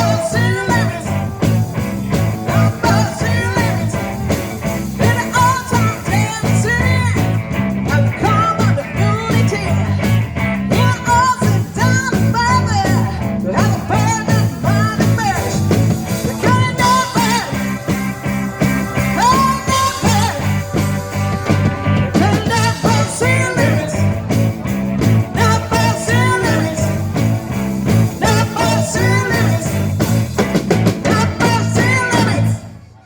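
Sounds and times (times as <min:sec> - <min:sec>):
pulsing bass line: 0:00.0 - 0:32.7
live rock band playing: 0:00.0 - 0:33.0.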